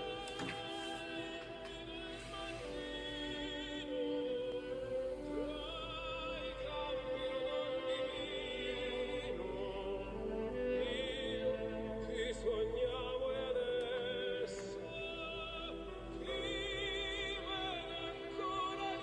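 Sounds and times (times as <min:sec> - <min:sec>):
operatic voice singing: 0:00.0 - 0:19.0
orchestral accompaniment: 0:00.0 - 0:19.0.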